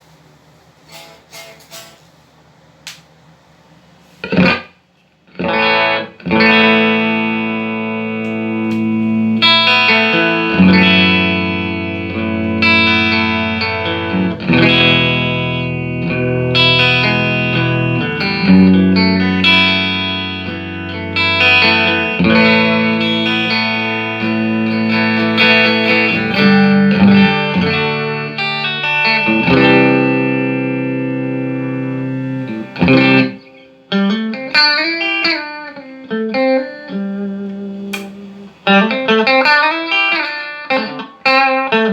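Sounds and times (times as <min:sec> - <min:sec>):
electric guitar chords: 0:04.2 - 0:04.7, 0:05.3 - 0:41.9.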